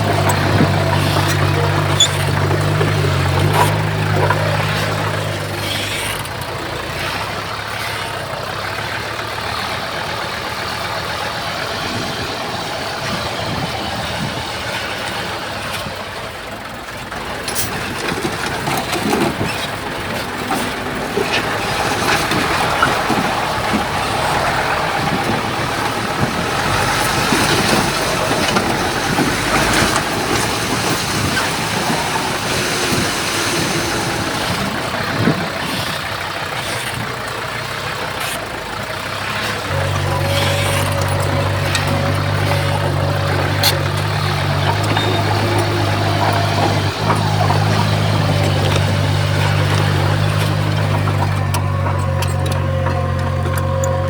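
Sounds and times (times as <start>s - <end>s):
bulldozer diesel engine under load: 0.0s - 54.0s
tracks clanking and knocking: 0.0s - 54.0s.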